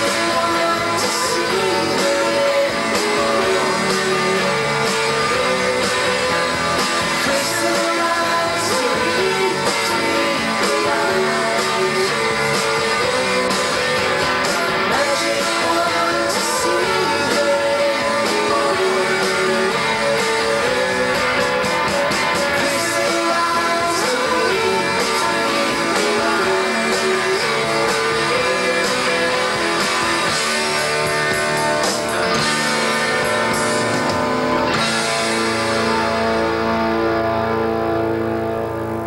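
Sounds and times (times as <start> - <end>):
guitar rock song with singing: 0.0 - 39.0.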